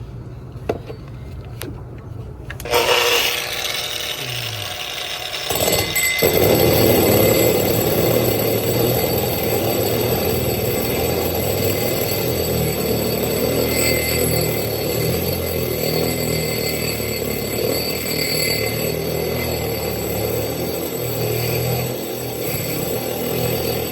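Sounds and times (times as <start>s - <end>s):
power drill grinding: 2.6s - 23.9s.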